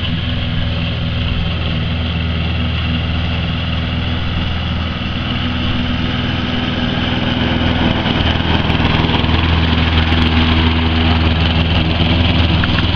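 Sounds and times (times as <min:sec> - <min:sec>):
petrol lawn mower running: 0:00.0 - 0:12.9.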